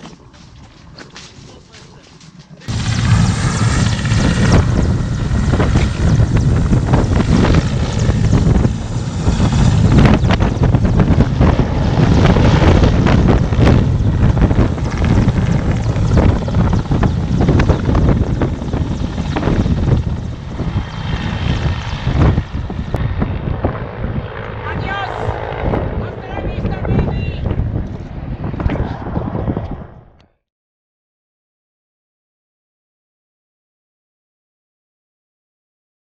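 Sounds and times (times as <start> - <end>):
helicopter turbine and rotor noise: 0.0 - 30.2.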